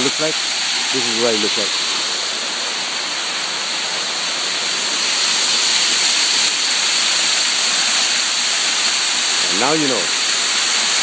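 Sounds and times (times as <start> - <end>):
loud steady hiss: 0.0 - 11.0.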